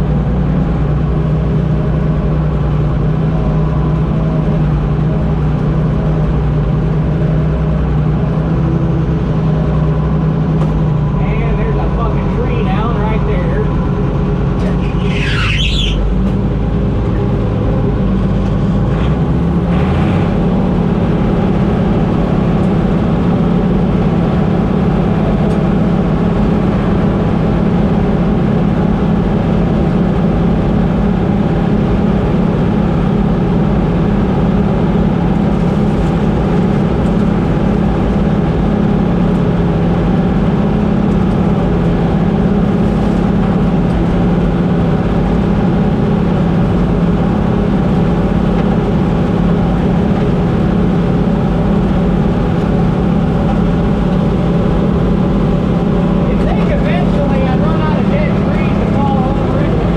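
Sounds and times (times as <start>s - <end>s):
combine harvester droning: 0.0s - 59.9s.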